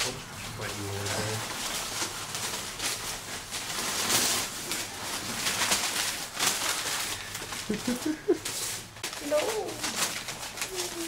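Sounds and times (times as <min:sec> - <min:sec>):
puppies rustling and scuffling: 0:00.0 - 0:11.0.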